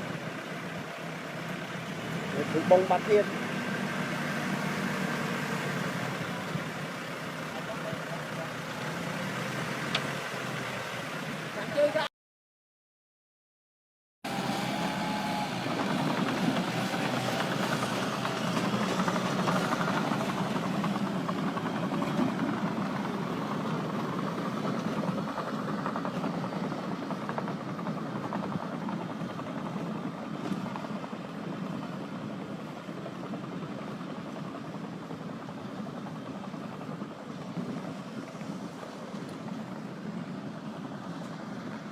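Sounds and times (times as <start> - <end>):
heavy diesel machinery running: 0.0 - 12.0, 14.3 - 41.9.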